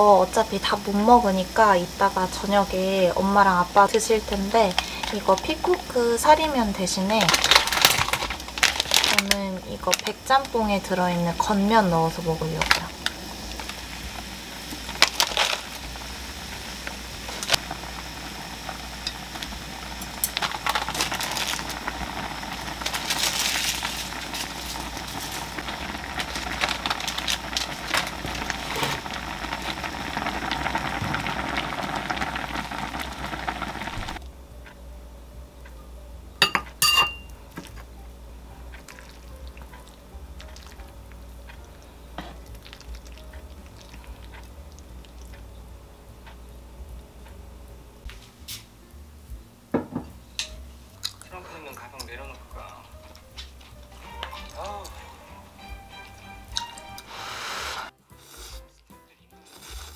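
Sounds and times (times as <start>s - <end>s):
stew boiling and bubbling: 0.0s - 59.9s.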